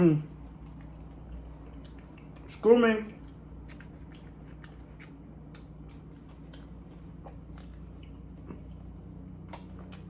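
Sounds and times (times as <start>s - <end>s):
steady low hum: 0.0s - 10.0s
person chewing food: 0.3s - 10.0s.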